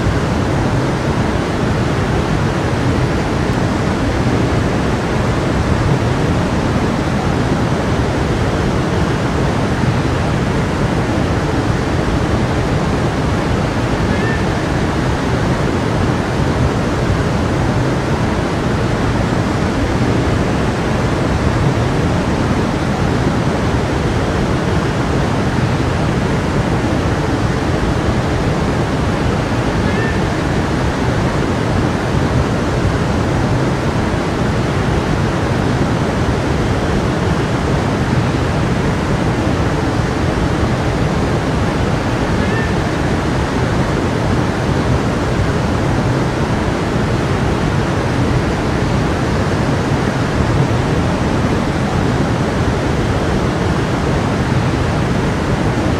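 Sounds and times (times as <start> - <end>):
stream of water rushing: 0.0 - 55.9.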